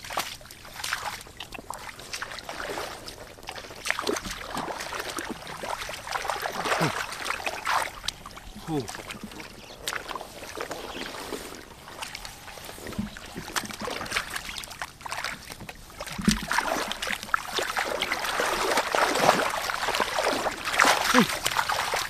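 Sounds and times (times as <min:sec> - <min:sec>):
hands sloshing in muddy water: 0:00.0 - 0:22.0.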